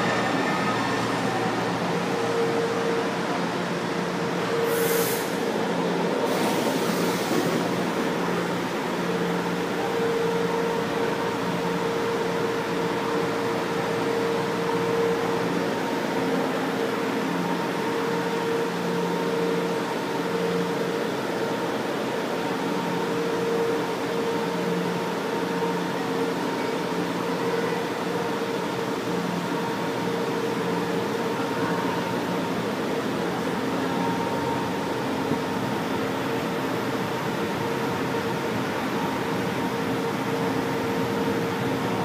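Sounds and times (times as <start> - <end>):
train equipment hum and whir: 0.0 - 42.0.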